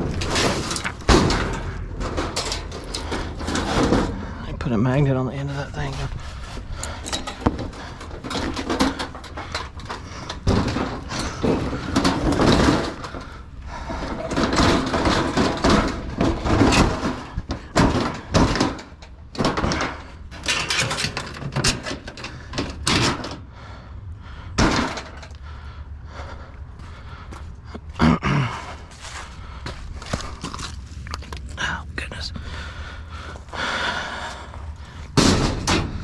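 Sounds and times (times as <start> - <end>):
scrap knocking and rattling: 0.0 - 23.8, 24.4 - 27.9, 32.8 - 36.0.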